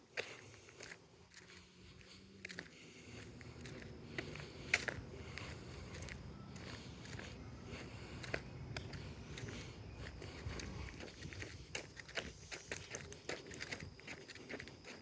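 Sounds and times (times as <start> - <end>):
faint steady hum: 0.0 - 15.0
light footsteps: 0.1 - 15.0.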